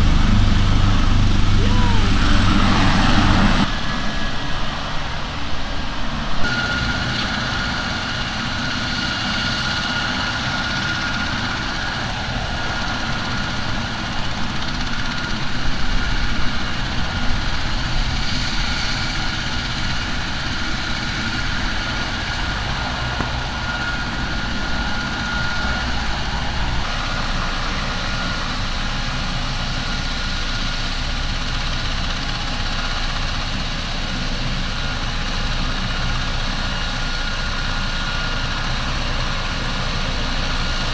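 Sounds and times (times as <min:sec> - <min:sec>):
constant high whine: 0:00.0 - 0:40.9
heavy engine running: 0:00.0 - 0:40.9.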